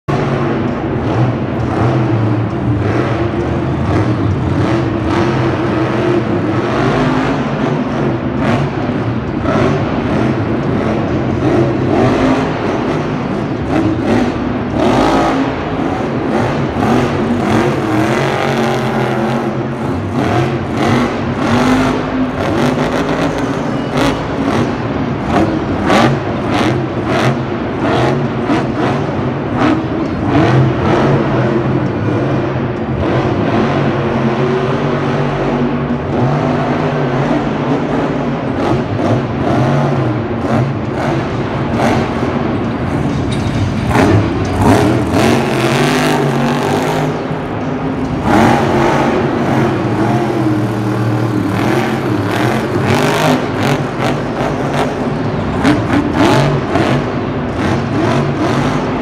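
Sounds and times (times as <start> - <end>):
monster truck engines revving: 0.0 - 59.0.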